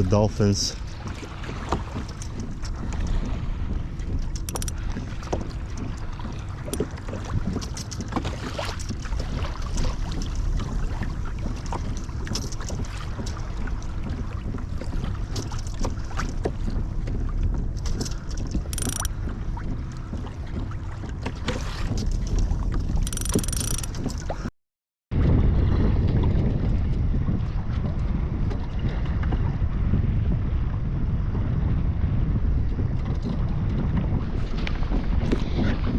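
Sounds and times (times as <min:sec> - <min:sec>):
water lapping against kayak hull: 0:00.0 - 0:24.5, 0:25.2 - 0:35.9
wind rumbling on microphone: 0:00.0 - 0:24.5, 0:25.1 - 0:35.9.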